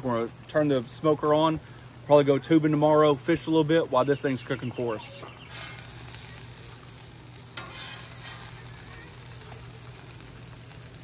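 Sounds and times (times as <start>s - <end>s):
grease sizzling on griddle: 0.0s - 11.0s.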